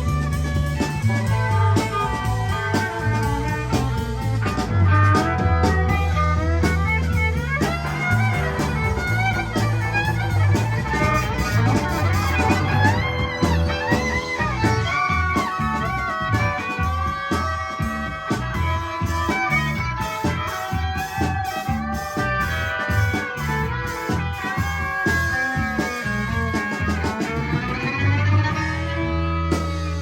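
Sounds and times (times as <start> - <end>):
bass line: 0.0 - 30.0
drum kit: 0.0 - 30.0
sliding lead melody: 0.0 - 30.0.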